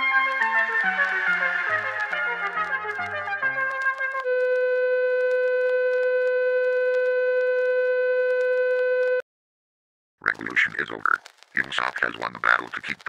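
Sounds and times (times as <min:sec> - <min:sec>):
faint crackle: 0:00.0 - 0:09.2, 0:10.2 - 0:13.0.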